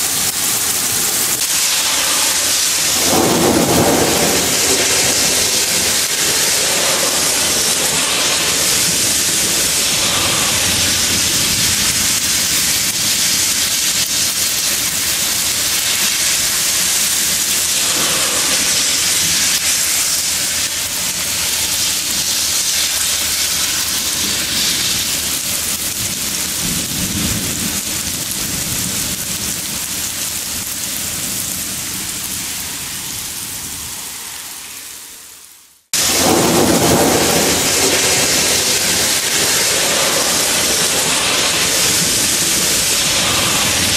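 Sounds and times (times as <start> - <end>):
thunder rumbling: 0.0 - 34.0, 36.0 - 43.9
heavy rain pouring: 0.0 - 43.9.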